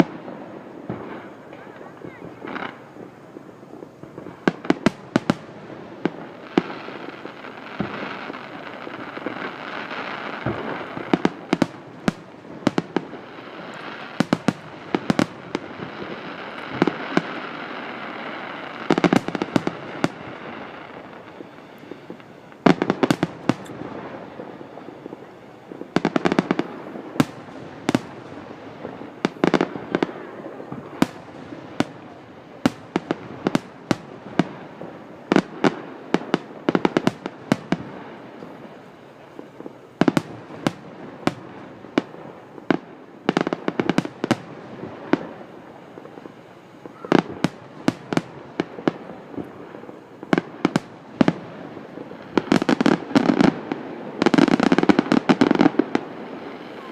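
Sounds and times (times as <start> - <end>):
fireworks bangs: 0.0 - 56.9
fireworks hiss: 0.0 - 56.9.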